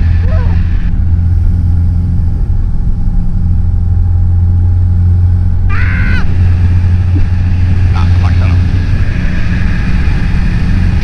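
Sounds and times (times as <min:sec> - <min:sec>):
aircraft engine and propeller droning: 0:00.0 - 0:11.0.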